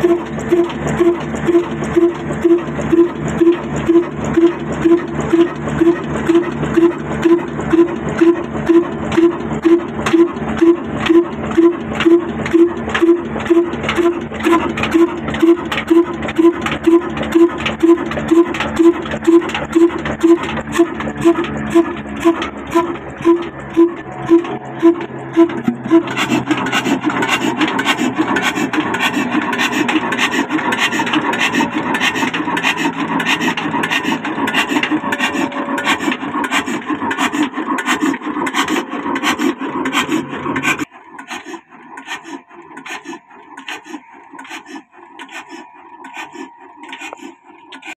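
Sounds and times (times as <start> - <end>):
diesel engine rhythmic clatter: 0.0 - 48.0.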